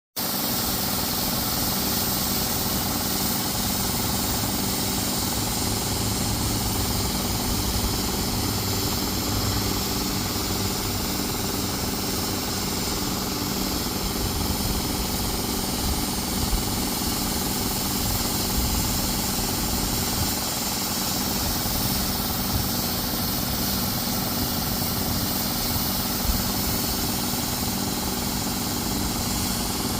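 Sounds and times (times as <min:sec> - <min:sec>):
snow-making machine humming: 0:00.2 - 0:29.9.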